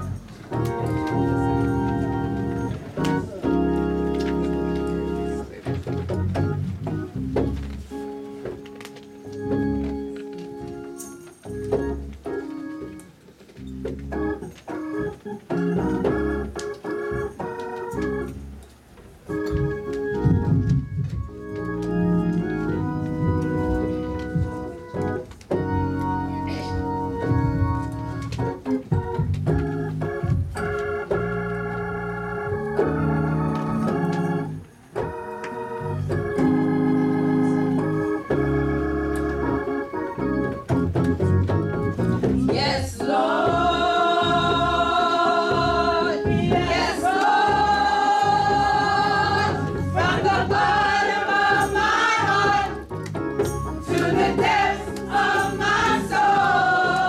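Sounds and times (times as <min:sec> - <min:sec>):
church organ chords: 0:00.0 - 0:18.6, 0:19.2 - 0:57.0.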